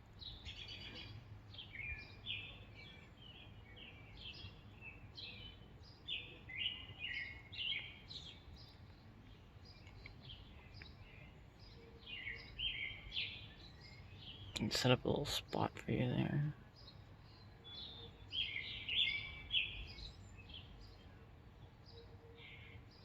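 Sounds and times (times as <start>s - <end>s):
low steady background noise: 0.0s - 23.0s
small bird chirping rapidly: 0.1s - 21.1s.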